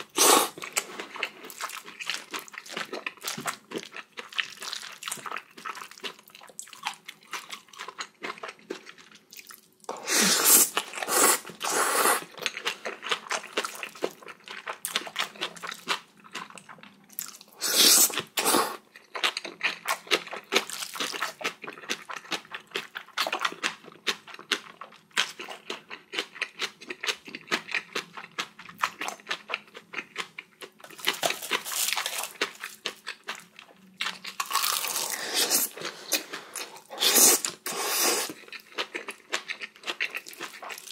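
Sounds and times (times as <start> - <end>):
person chewing with wet smacks: 0.0 - 10.0, 10.7 - 17.5, 18.1 - 40.9.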